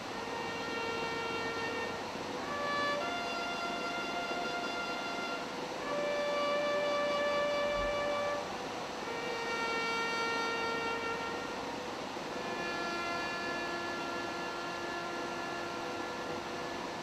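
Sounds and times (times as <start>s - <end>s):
trumpets playing long notes: 0.0s - 17.0s.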